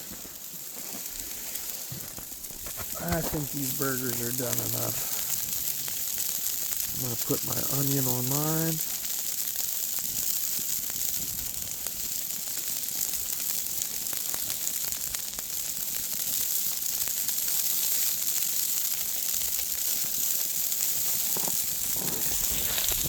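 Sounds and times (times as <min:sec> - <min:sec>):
burgers sizzling on a griddle: 0:00.0 - 0:23.0.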